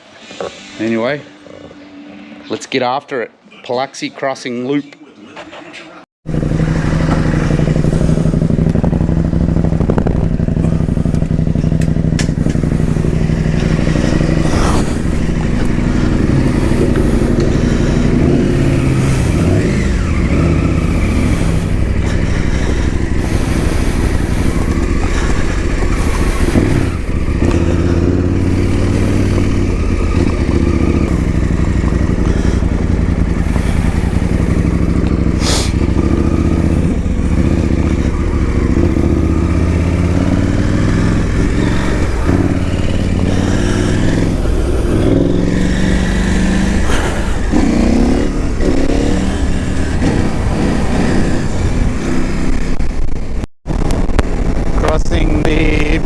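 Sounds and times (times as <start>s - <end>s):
motorcycle engine revving: 6.2s - 56.0s.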